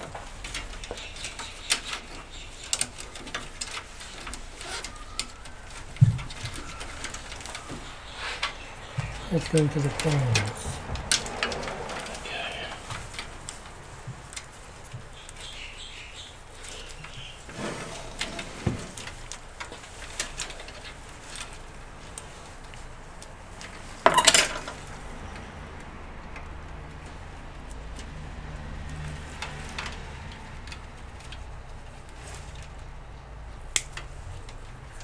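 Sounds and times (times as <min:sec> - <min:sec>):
cables and plastic connectors rattling: 0:00.0 - 0:28.2.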